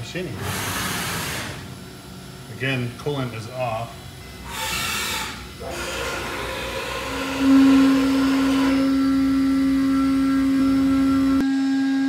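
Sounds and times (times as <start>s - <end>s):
cnc spindle whine: 0.0s - 12.0s.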